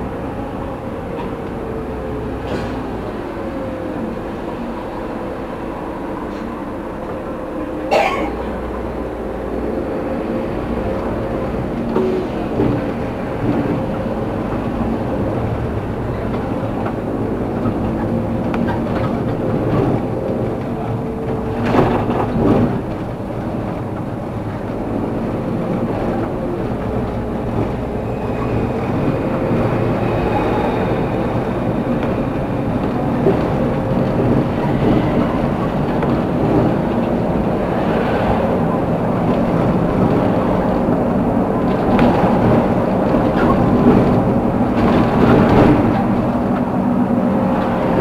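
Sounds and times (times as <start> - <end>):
vehicle rumble and hum: 0.0 - 48.0.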